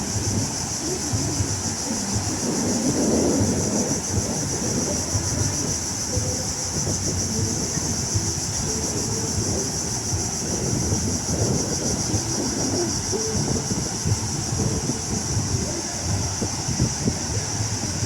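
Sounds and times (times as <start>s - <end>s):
beach surf: 0.0s - 18.0s
high-pitched hiss: 0.0s - 18.0s
wind rumbling on microphone: 0.0s - 18.0s.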